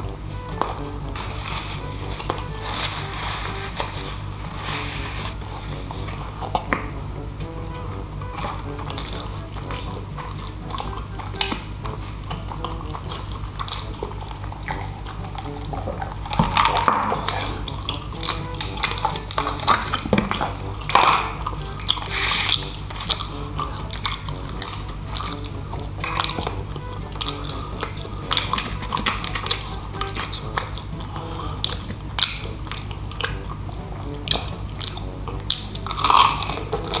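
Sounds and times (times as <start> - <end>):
chewing crispy fried chicken: 0.0 - 37.0
quiet background music: 0.0 - 37.0.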